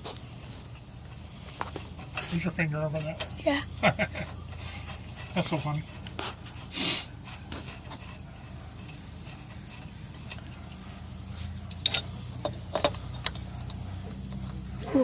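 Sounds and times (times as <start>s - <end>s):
hand tools clicking and rubbing: 0.0s - 15.0s.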